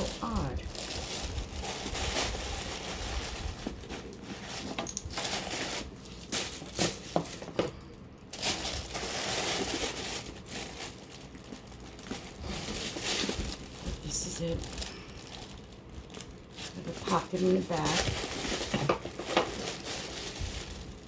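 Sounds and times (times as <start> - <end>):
paper packaging rustling: 0.0 - 21.0.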